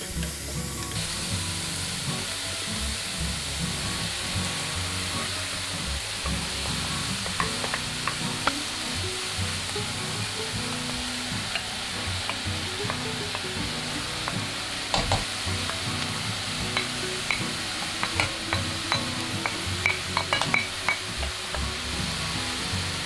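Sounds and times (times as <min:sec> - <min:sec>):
vegetables sizzling in a pot: 0:00.0 - 0:23.0.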